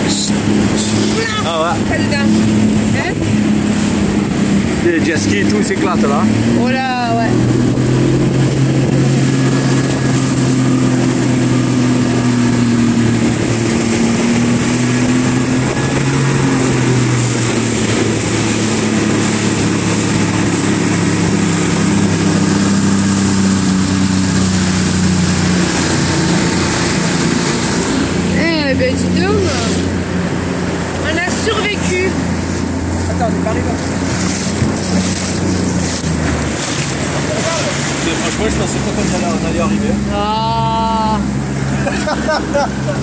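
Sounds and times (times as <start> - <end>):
outboard motor running: 0.0 - 43.0
rushing wind and water: 0.0 - 43.0.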